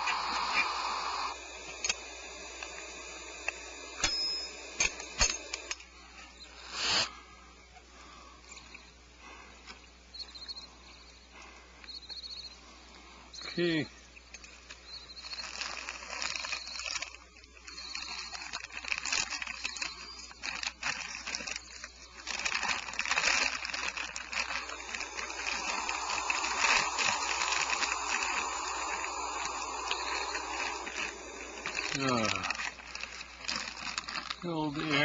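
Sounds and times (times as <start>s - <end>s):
owl nestlings hissing: 0.0s - 7.4s, 8.0s - 35.0s.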